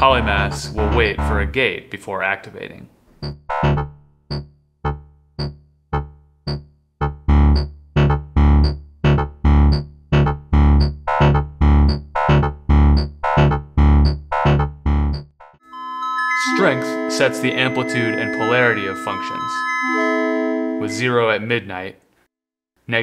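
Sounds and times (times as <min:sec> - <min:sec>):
plucked synthesizer tones: 0:00.0 - 0:01.6, 0:03.2 - 0:21.2.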